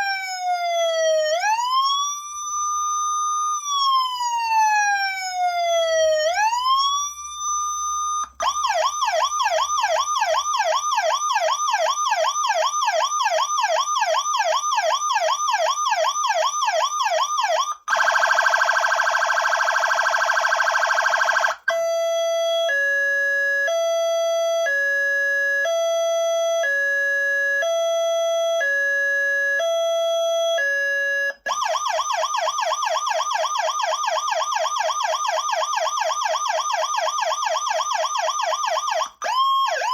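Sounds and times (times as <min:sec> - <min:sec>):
siren fast yelp: 0:00.0 - 0:39.9
siren wail: 0:00.0 - 0:39.9
two-tone hi-lo siren: 0:00.0 - 0:39.9.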